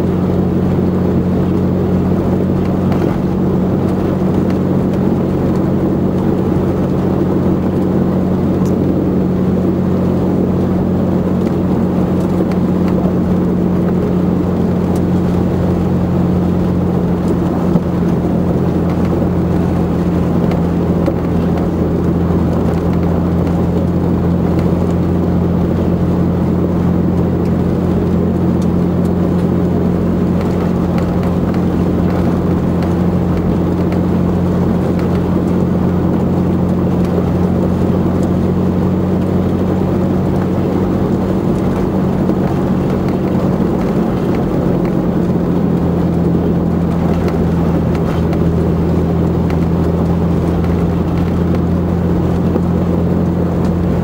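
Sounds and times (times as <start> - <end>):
tyres rumbling on dirt road: 0.0 - 54.0
vehicle engine humming: 0.0 - 54.0.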